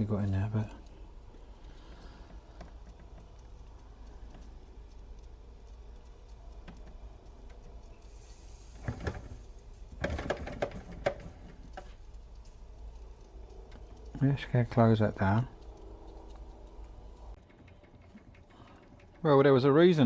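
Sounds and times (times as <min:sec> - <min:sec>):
model steam engine running: 0:00.0 - 0:20.0
sharp clicks and knocks: 0:00.0 - 0:20.0.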